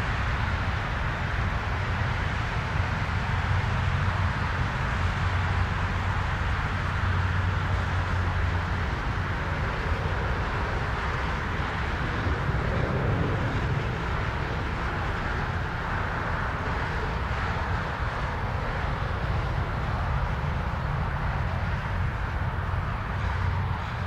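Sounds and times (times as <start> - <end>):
turboprop engine and propeller noise: 0.0 - 24.0.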